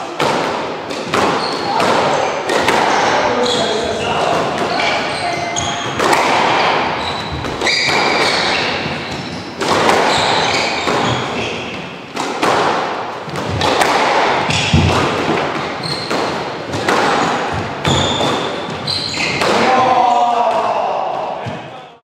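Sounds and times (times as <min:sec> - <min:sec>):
squash ball cracks echoing: 0:00.0 - 0:21.7.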